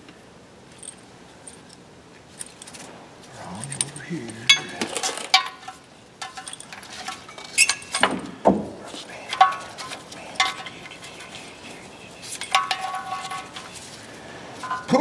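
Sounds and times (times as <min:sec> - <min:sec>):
metal tools clinking: 0:00.7 - 0:08.2, 0:08.9 - 0:15.0.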